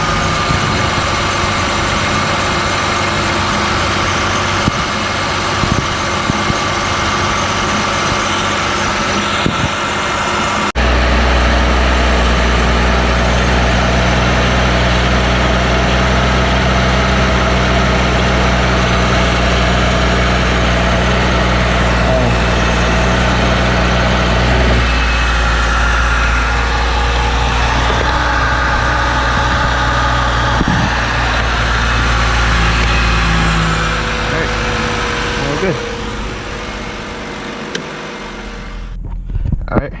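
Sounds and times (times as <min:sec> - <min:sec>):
car engine idling: 0:00.0 - 0:39.4
strong low hum: 0:00.0 - 0:40.0.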